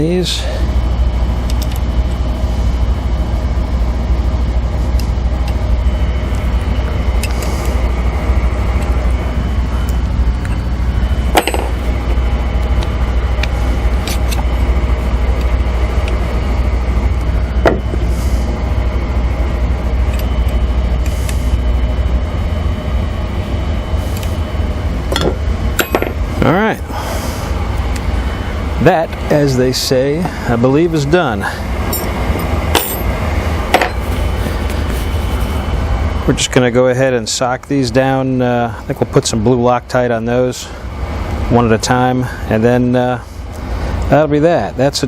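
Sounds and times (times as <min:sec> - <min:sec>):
loud steady low hum: 0:00.0 - 0:45.0.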